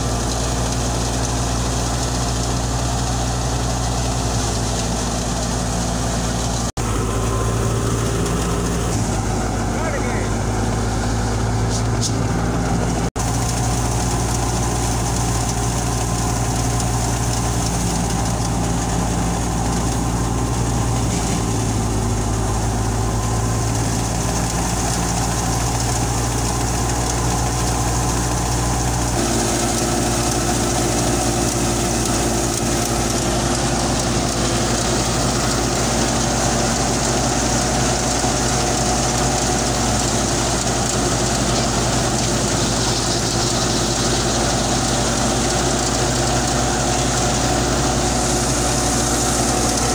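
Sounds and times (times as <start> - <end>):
thresher and tractor engine hum: 0.0 - 49.9.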